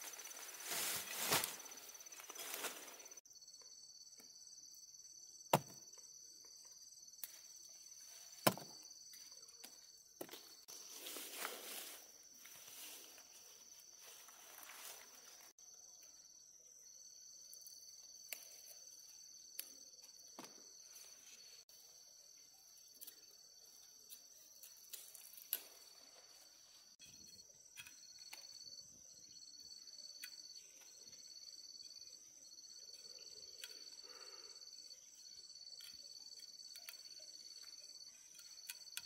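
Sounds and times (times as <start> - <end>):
pulsing insect trill: 0.0 - 39.0.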